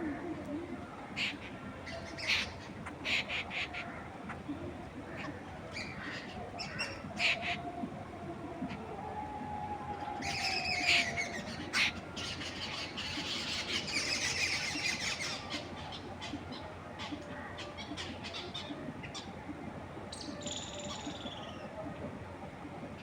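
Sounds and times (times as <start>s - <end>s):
birds chirping: 0.0s - 23.0s
wind rustling through trees: 0.0s - 23.0s.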